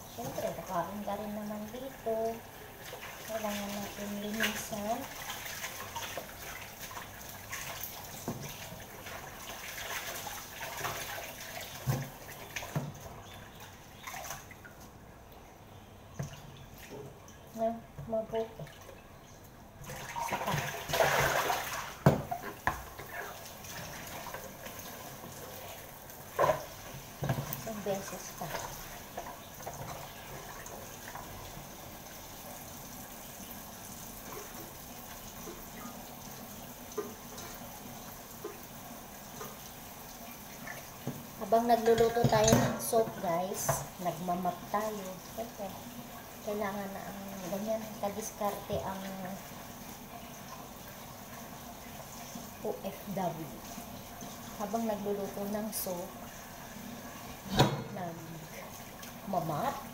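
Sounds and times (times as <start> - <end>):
water splashing and dripping: 0.0 - 59.9.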